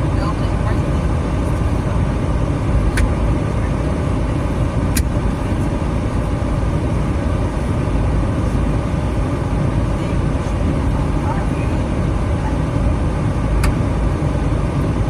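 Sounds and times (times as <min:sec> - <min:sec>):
minivan engine and road noise: 0:00.0 - 0:15.0.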